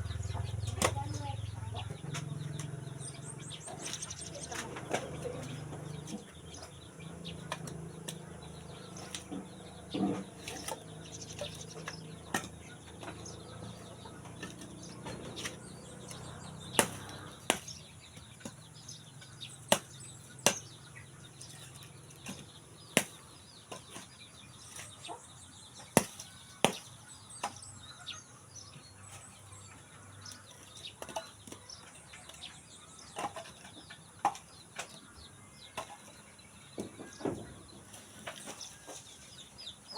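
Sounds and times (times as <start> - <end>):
faint chickens: 0.0 - 39.9.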